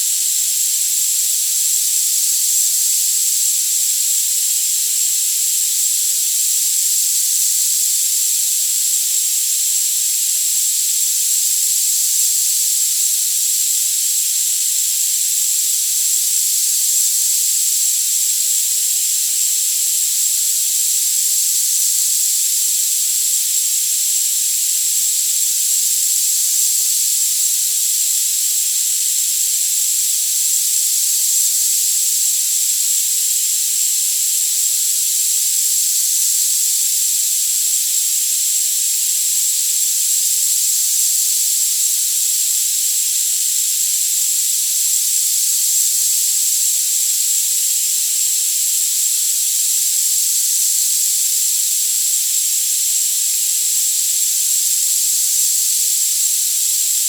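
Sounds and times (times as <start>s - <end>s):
steady high-frequency hiss: 0.0s - 57.0s.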